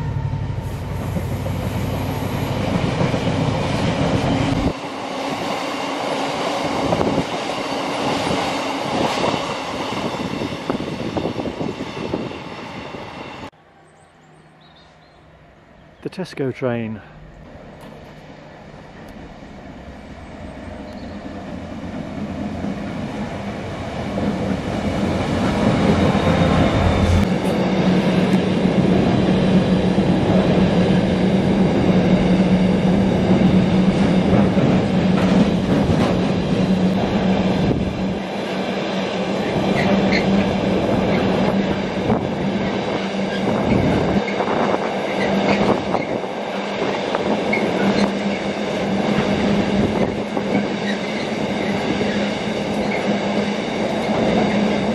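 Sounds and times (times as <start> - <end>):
diesel locomotive engine: 0.0 - 54.9.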